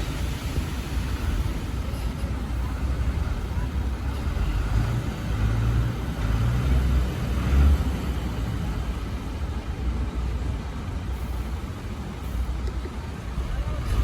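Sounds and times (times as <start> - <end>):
diesel earthmoving machinery engine: 0.0 - 14.0.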